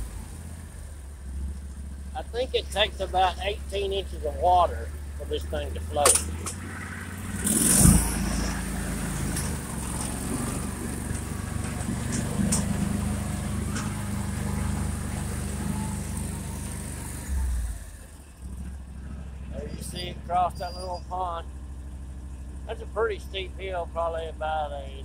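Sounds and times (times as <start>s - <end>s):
atv engine running under load: 0.0s - 25.0s.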